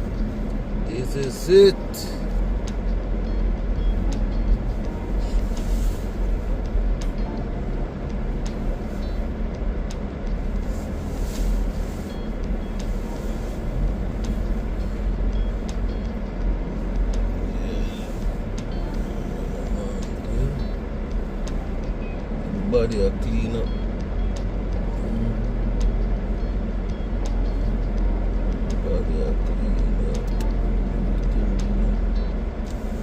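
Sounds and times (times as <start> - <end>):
car interior rumble: 0.0 - 33.0
faint music playing: 0.0 - 33.0.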